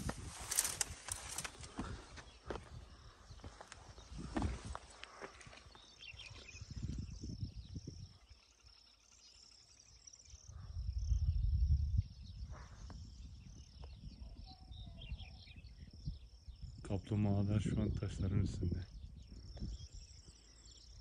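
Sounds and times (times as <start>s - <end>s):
wind rumble on microphone: 0.0s - 8.5s, 10.3s - 21.0s
insects trilling: 0.0s - 21.0s.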